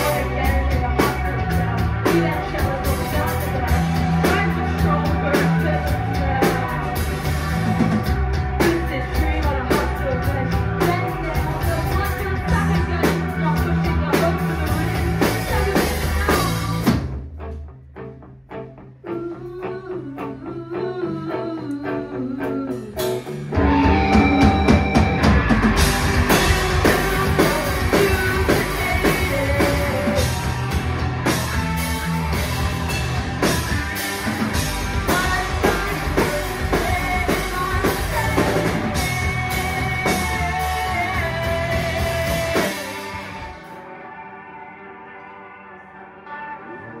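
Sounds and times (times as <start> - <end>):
rock band playing: 0.0 - 47.0.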